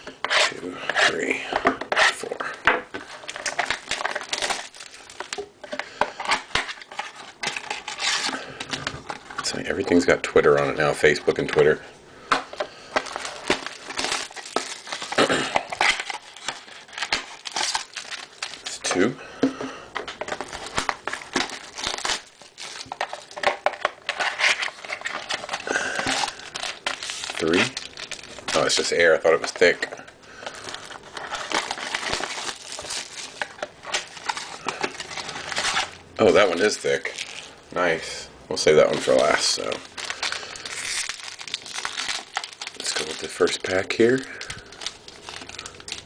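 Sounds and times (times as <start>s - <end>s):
wrappers crinkling and rustling: 2.2s - 10.2s, 12.5s - 19.2s, 20.0s - 38.0s, 38.6s - 46.0s.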